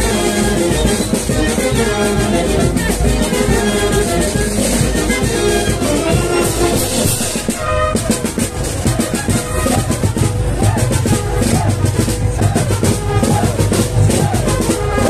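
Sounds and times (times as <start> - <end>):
brass band melody: 0.0 - 15.0
steady drum beats: 0.0 - 15.0.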